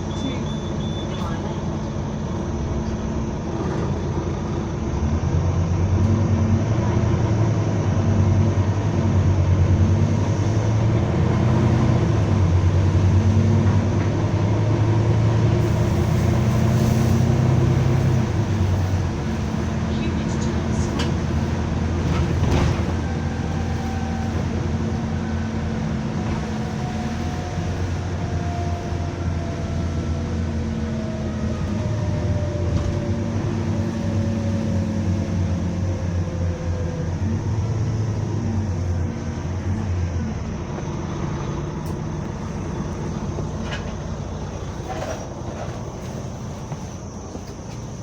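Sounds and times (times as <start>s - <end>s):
bus engine hum: 0.0s - 48.0s.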